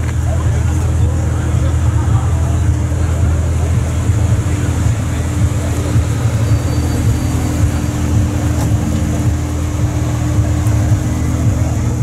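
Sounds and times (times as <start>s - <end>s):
sports car engine idling: 0.0s - 12.0s.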